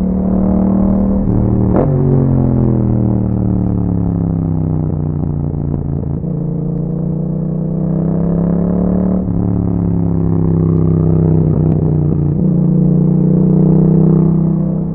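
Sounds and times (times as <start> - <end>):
motorcycle engine while riding: 0.0 - 14.9.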